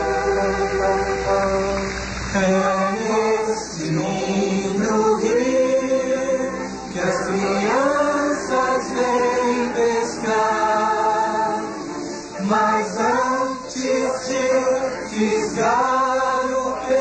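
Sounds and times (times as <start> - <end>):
choir singing long notes: 0.0 - 17.0.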